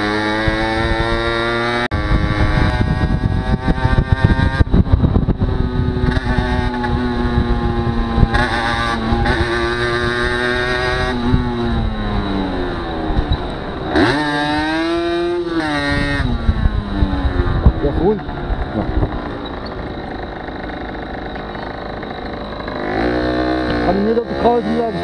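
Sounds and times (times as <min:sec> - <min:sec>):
wind on microphone: 0:00.0 - 0:21.2
motorcycle engine running: 0:00.0 - 0:25.0.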